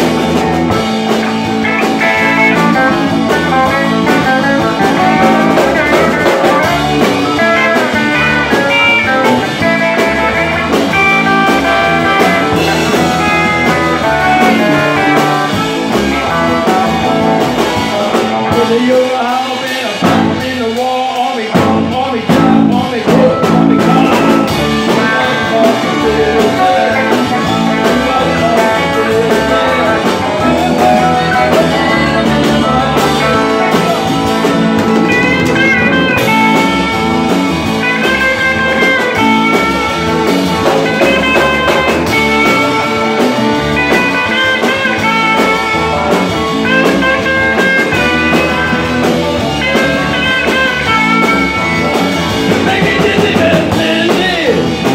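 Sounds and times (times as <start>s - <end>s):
electric guitar lead solo: 0.0s - 18.6s, 22.6s - 54.9s
bass guitar: 0.0s - 54.9s
drums: 0.0s - 54.9s.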